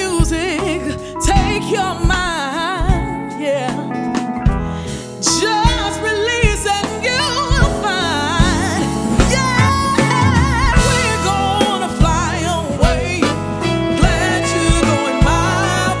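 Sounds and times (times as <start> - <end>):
bass: 0.0 - 16.0
drums: 0.0 - 16.0
soul band playing slow groove: 0.0 - 16.0
wordless lead melody with vibrato: 0.0 - 16.0.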